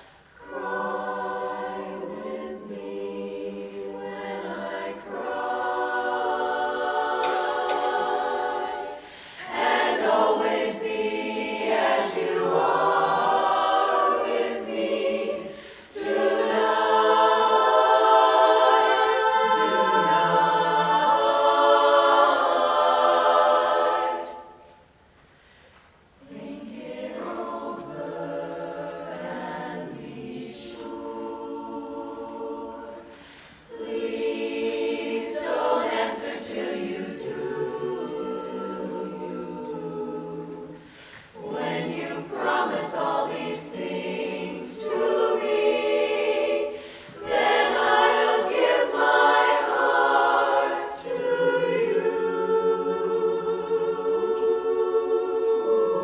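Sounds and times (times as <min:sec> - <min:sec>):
women's chorus singing: 0:00.0 - 0:25.0, 0:26.2 - 0:56.0.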